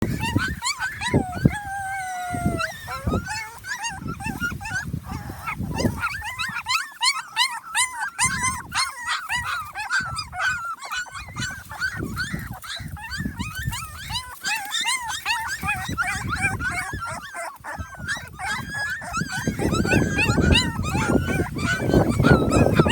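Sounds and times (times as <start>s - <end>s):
puppies whimpering and squealing: 0.0s - 22.9s.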